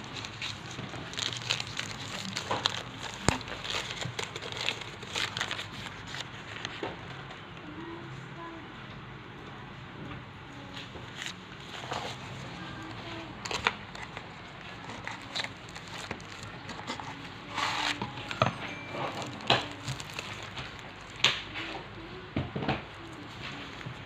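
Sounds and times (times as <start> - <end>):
wrapping crinkling: 0.0 - 6.8, 11.1 - 24.0.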